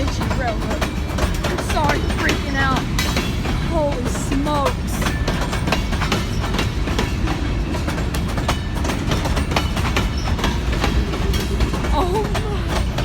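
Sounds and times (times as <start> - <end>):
train cars rumbling: 0.0 - 13.0
wheels clacking over rail joints: 0.0 - 13.0.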